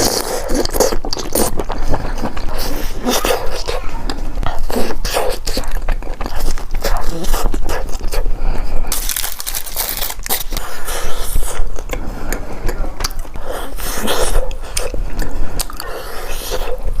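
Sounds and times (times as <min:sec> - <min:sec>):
person chewing mushrooms: 0:00.0 - 0:17.0.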